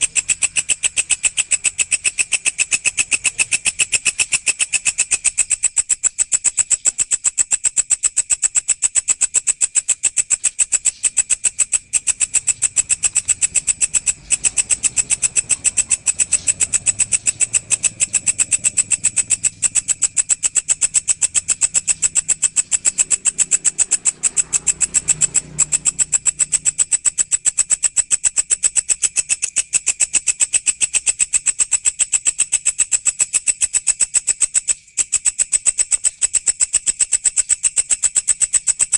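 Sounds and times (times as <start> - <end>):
insect stridulating high chirps: 0.0 - 38.9.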